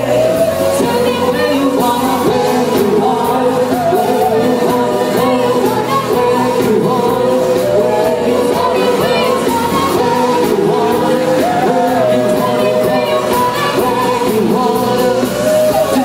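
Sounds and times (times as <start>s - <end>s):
person singing: 0.0s - 16.0s
pop song: 0.0s - 16.0s.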